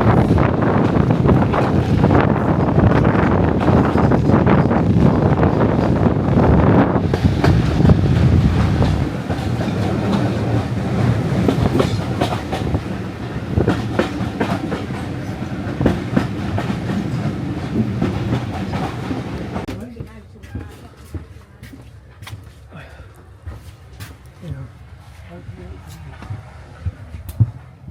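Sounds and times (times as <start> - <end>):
diesel train low rumble: 0.0 - 27.9.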